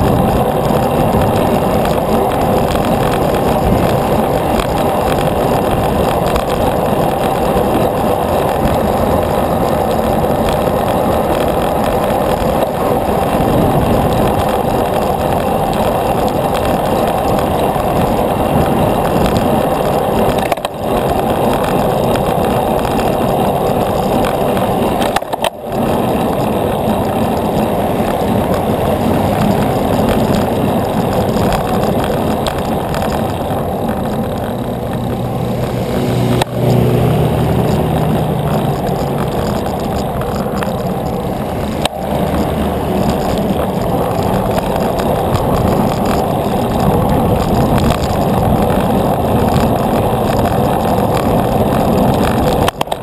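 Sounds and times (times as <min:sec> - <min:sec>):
motor vehicle passing: 0:00.0 - 0:25.1, 0:25.7 - 0:52.8
wind and road noise: 0:00.0 - 0:53.0.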